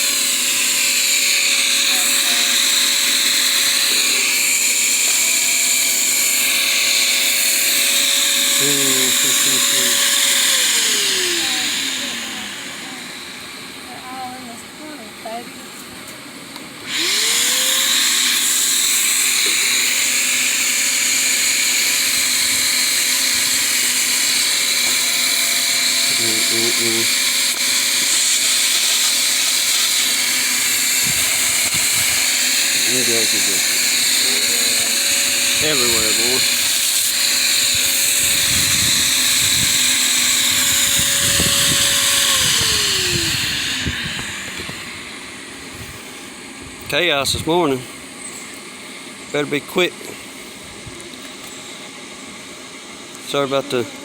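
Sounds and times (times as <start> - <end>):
small motor whining: 0.0 - 54.0.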